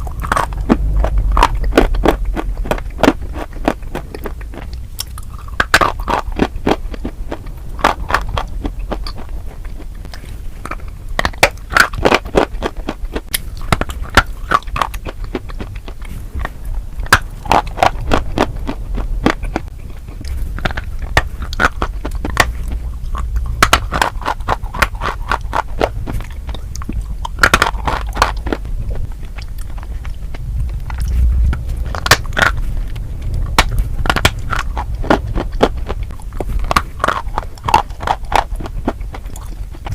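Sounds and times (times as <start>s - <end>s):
crunchy food chewing: 0.0s - 39.9s
low rumble: 0.0s - 39.9s.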